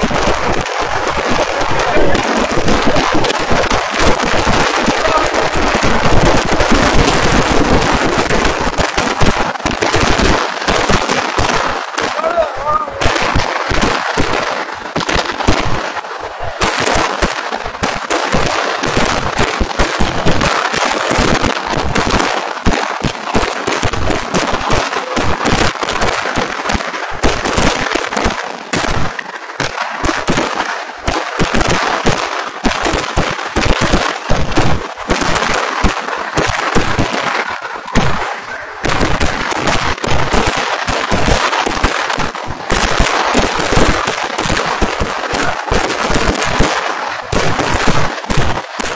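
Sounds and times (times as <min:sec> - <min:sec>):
fireworks barrage bangs and cracks: 0:00.0 - 0:48.9.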